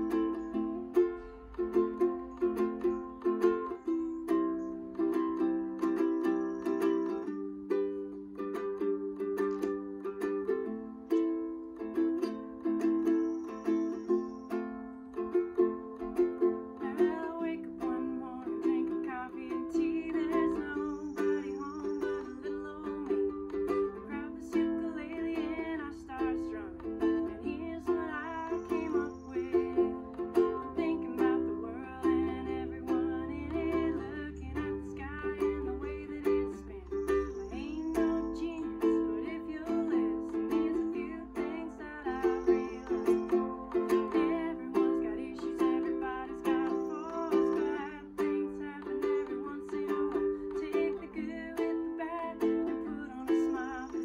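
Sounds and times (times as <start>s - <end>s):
ukulele strumming: 0.0s - 54.0s
woman singing: 0.0s - 54.0s.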